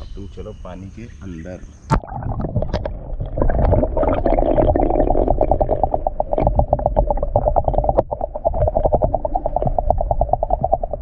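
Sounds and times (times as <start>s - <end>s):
muffled underwater rush: 1.6s - 11.0s.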